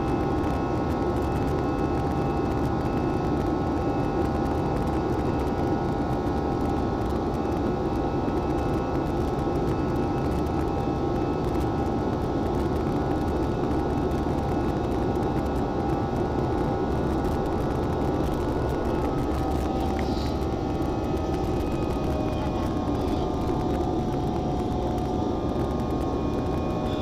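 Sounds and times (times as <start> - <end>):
faint steady whining tones: 0.0 - 27.0
jet engine and airflow noise: 0.0 - 27.0.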